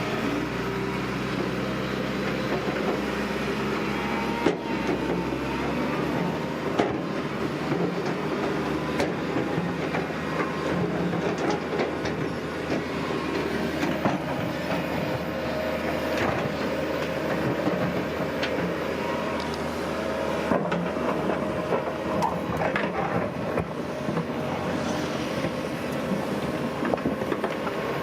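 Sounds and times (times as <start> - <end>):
diesel engine running: 0.0 - 28.0
steel crawler tracks clattering: 0.0 - 28.0.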